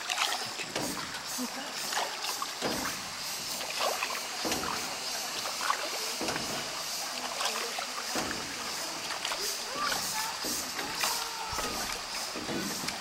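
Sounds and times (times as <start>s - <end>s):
oars swishing through water: 0.0s - 13.0s
steady high hiss: 0.6s - 13.0s.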